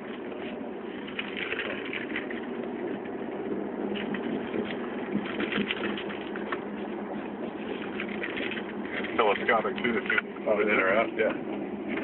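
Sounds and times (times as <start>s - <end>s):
car engine hum in cabin: 0.0s - 12.0s
road noise: 0.0s - 12.0s.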